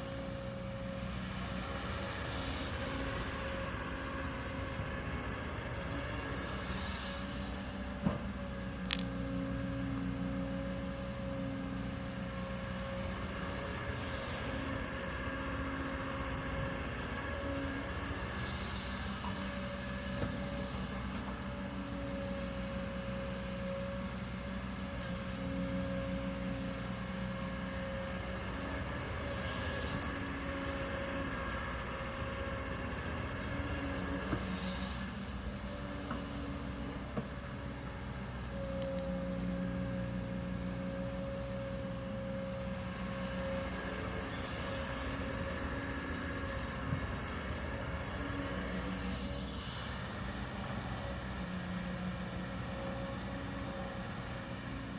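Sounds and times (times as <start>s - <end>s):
excavator diesel engine droning: 0.0s - 54.9s.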